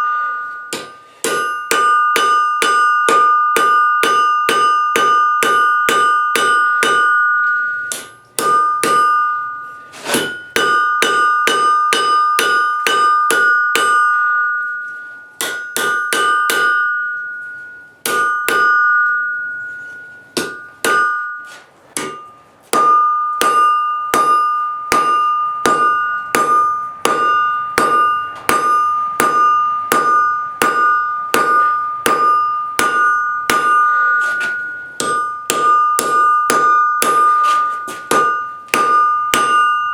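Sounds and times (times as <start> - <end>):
anvil ringing: 0.0 - 39.9
hammer striking steel on anvil: 0.0 - 39.9.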